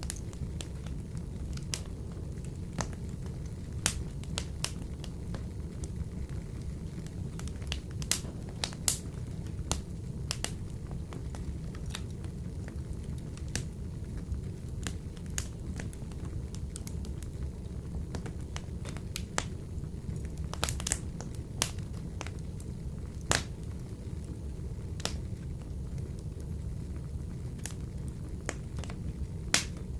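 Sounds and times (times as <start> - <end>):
wood fire crackling in a stove: 0.0 - 29.9.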